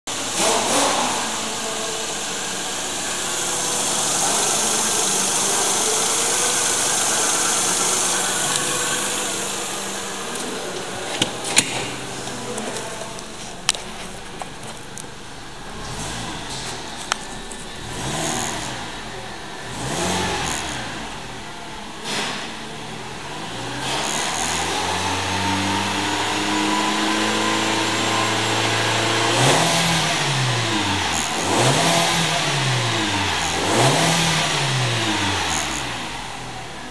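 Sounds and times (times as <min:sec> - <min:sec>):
car engine revving: 0:00.1 - 0:36.9.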